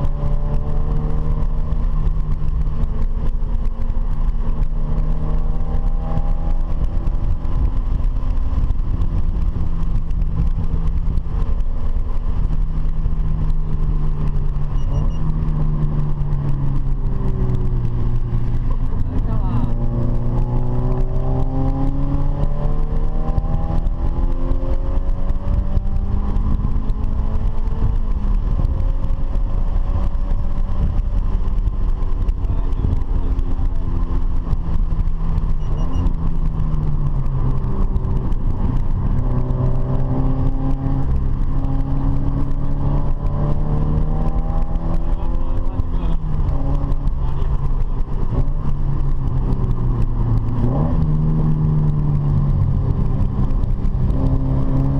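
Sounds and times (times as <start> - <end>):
car engine accelerating: 0.0 - 54.9
road and wind noise: 0.0 - 54.9.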